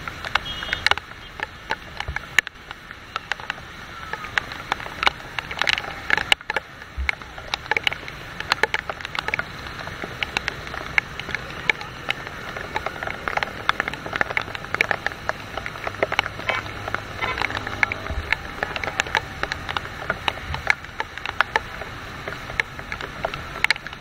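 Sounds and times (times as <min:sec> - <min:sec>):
heavy rain drops clicking: 0:00.0 - 0:24.0
road traffic rumble: 0:00.0 - 0:24.0.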